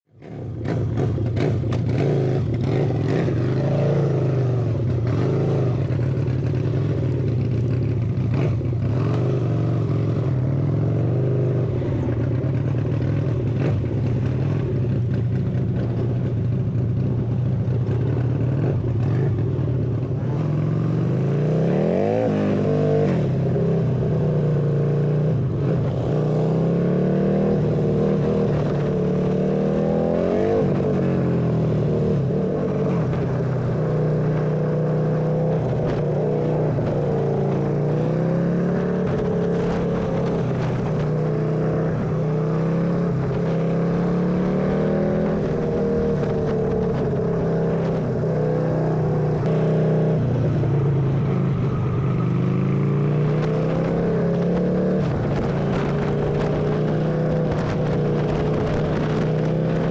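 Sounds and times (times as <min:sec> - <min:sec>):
motorcycle engine running: 0:00.1 - 0:59.9.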